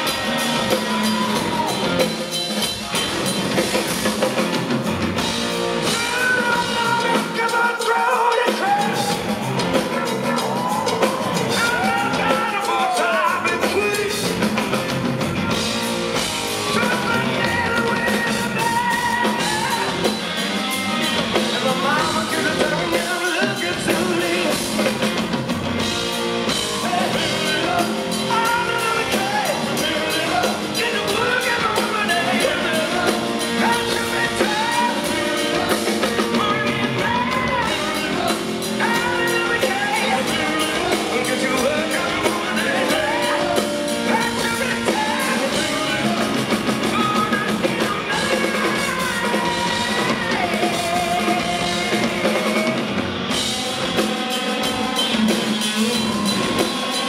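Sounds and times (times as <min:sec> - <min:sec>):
drum kit: 0:00.0 - 0:57.0
electric guitar: 0:00.0 - 0:57.0
man singing: 0:05.2 - 0:25.4, 0:26.4 - 0:57.0.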